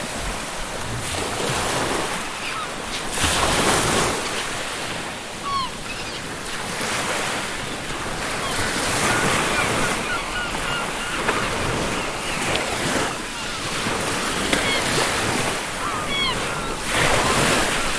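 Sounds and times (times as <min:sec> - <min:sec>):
ocean surf washing onto beach: 0:00.0 - 0:17.9
seagulls calling: 0:02.0 - 0:17.9.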